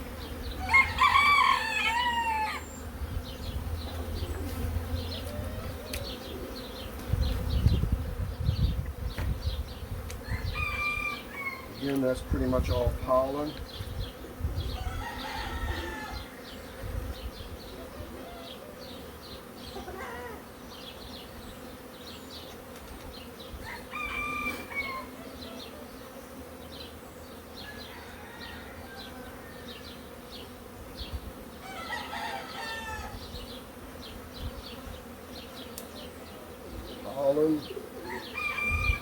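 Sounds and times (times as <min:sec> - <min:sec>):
chickens calling: 0:00.0 - 0:07.8, 0:10.2 - 0:39.0
honeybees buzzing: 0:00.0 - 0:39.0.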